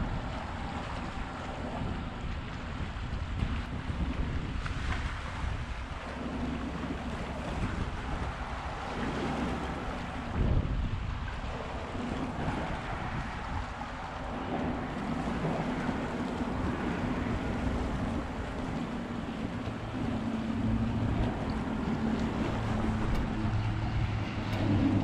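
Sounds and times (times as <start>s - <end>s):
low steady hum: 0.0s - 25.0s
small waves washing against rocks: 0.0s - 25.0s
wind on microphone: 0.0s - 25.0s.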